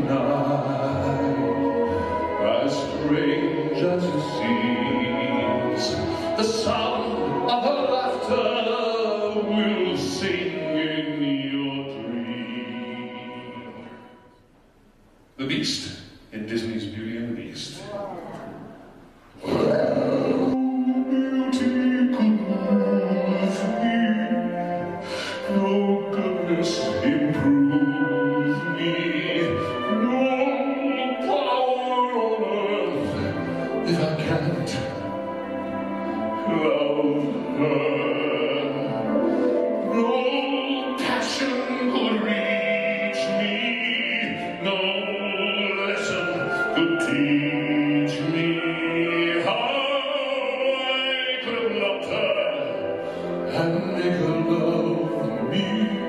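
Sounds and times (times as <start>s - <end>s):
man singing into a microphone: 0.0s - 14.0s, 19.5s - 35.1s, 36.4s - 56.0s
musical accompaniment: 0.0s - 15.4s, 16.4s - 56.0s.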